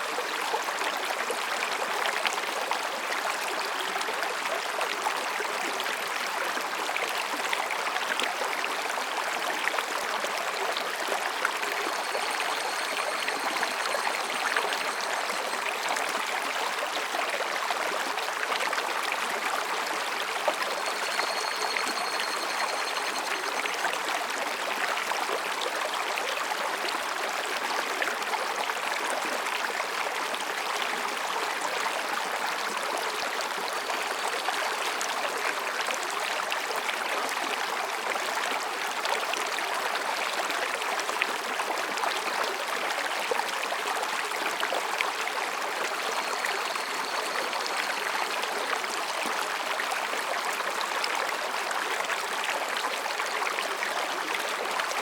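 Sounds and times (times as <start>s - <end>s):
stream splashing over rocks: 0.0s - 55.0s.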